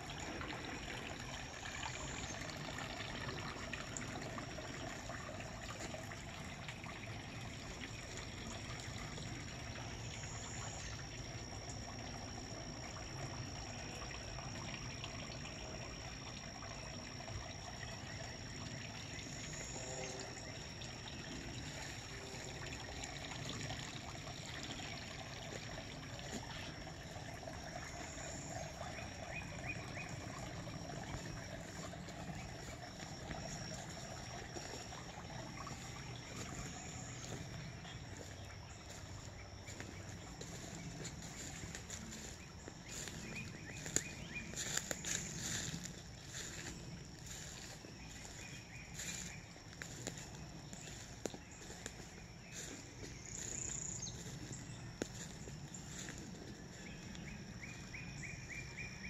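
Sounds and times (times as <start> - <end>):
high-pitched insect drone: 7.0 - 59.0.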